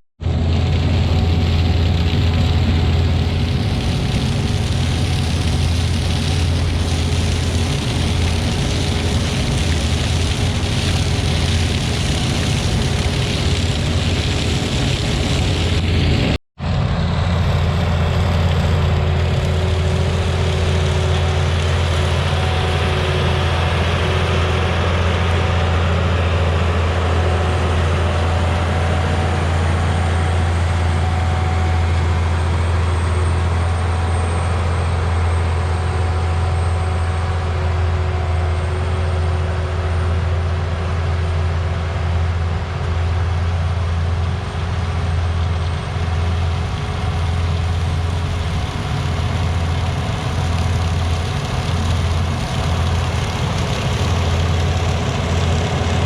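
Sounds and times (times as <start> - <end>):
diesel machinery humming: 0.2 - 56.0.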